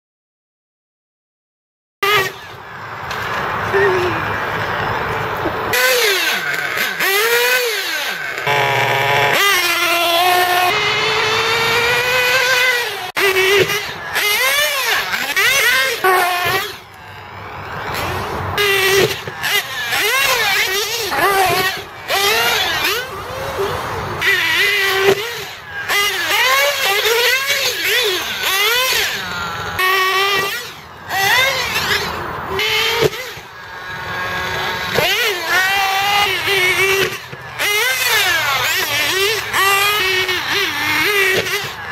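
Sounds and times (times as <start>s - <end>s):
small engine revving: 2.0s - 41.9s.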